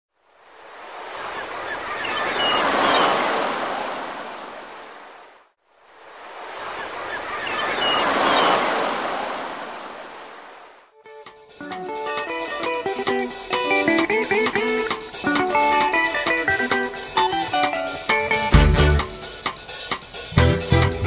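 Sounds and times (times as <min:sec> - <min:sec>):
ocean waves rushing in and back: 0:00.1 - 0:21.0.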